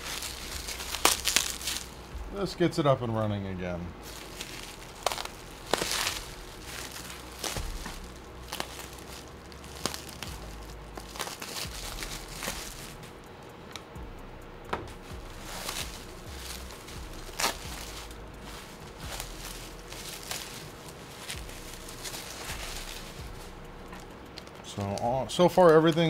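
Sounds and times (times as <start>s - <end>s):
plastic packaging crinkling: 0.0s - 2.6s, 4.0s - 13.1s, 15.0s - 26.0s
bubble wrap crackles: 0.0s - 2.7s, 4.0s - 13.1s, 15.0s - 26.0s.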